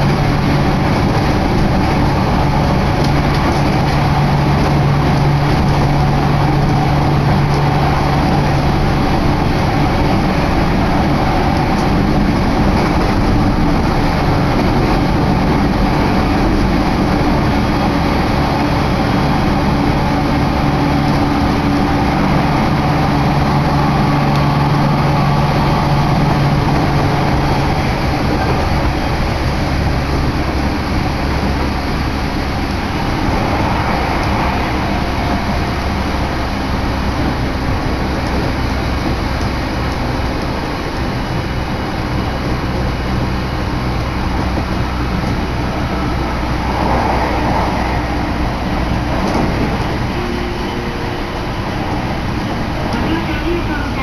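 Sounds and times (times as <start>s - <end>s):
train wheels rushing on rails: 0.0s - 54.0s.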